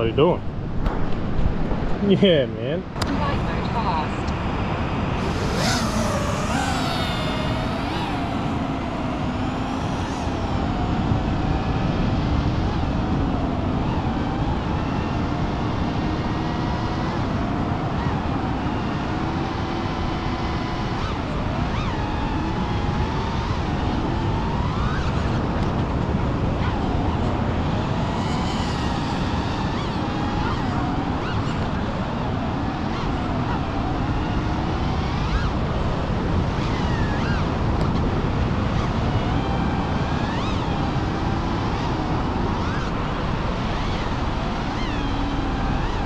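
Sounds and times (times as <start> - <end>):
wind rumble on microphone: 0.0 - 46.0
quadcopter motors whining: 1.2 - 46.0.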